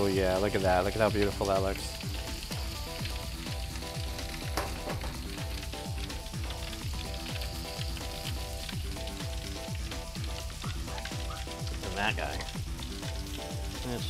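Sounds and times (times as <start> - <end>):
cutlet sizzling in hot oil: 0.0 - 14.0
music with kick-drum beat: 0.0 - 14.0.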